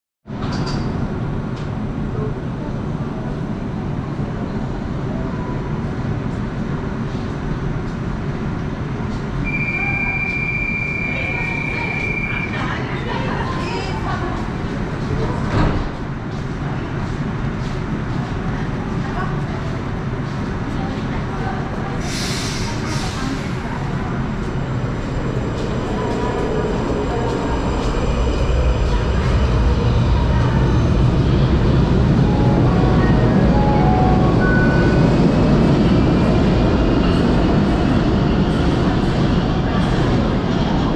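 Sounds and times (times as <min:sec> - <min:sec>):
metro train humming: 0:00.3 - 0:40.9
station hubbub: 0:01.0 - 0:40.9.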